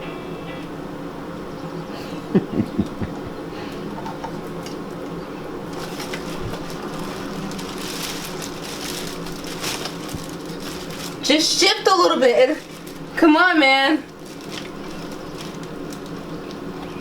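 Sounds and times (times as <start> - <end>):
low buzzing hum: 0.0 - 17.0.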